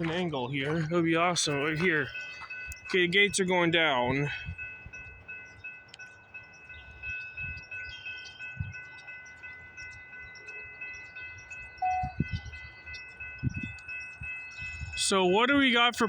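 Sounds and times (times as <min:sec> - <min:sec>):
railroad crossing bell ringing: 0:00.0 - 0:16.0.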